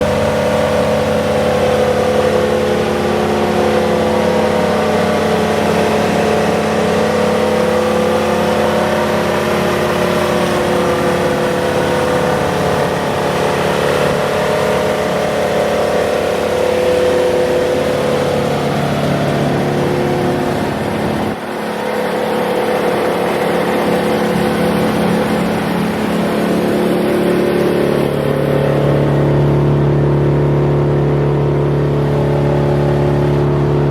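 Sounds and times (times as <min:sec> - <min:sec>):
wood chipper engine running: 0:00.0 - 0:33.9.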